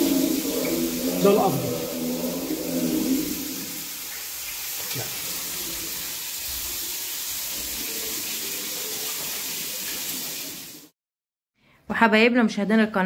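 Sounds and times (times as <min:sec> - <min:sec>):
tap water running: 0:00.0 - 0:11.0.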